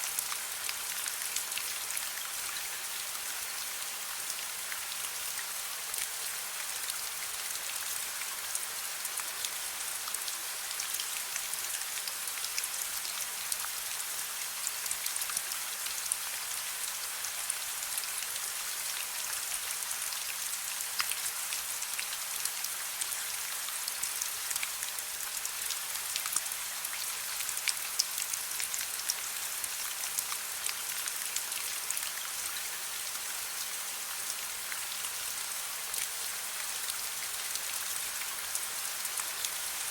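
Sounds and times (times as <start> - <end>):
soft rain: 0.0 - 39.9.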